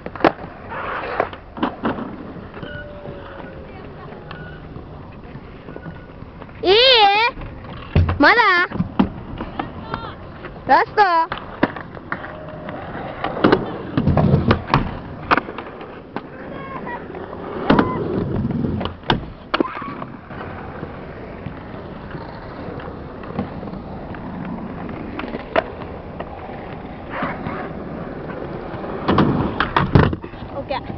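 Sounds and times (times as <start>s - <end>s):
skateboard clacking on ground: 0.0s - 30.9s
skateboard wheels rolling on concrete: 0.0s - 30.9s.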